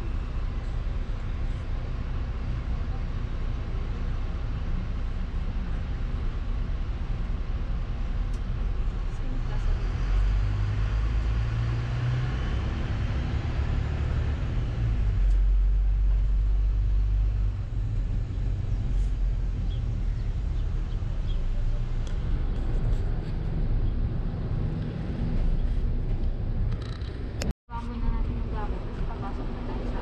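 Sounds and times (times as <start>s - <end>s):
road noise: 0.0s - 30.0s
vehicle engine rumble: 0.0s - 30.0s.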